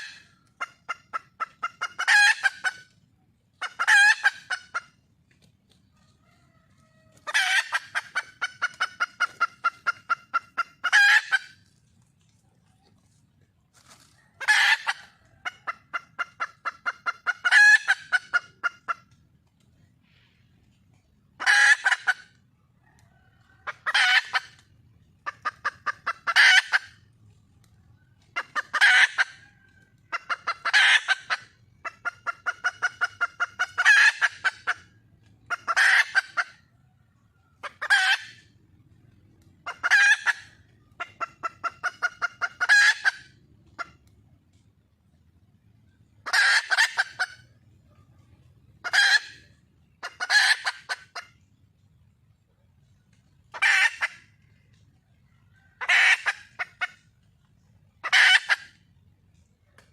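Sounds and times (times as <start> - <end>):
hen squawking and clucking: 0.0 - 44.1, 46.0 - 51.5, 52.9 - 58.9.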